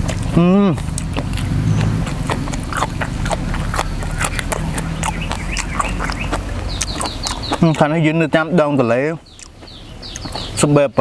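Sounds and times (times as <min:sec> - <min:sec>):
wet chewing and mouth smacks: 0:00.0 - 0:08.1, 0:09.3 - 0:10.6.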